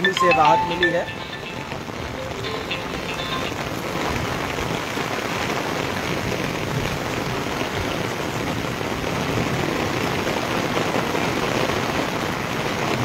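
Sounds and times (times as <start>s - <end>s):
heavy rain on concrete roof: 0.0s - 13.0s.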